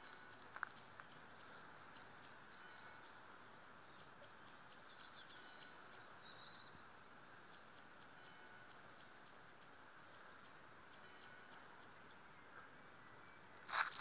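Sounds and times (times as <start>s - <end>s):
small birds chirping: 0.0s - 14.0s
steady outdoor hiss: 0.0s - 14.0s.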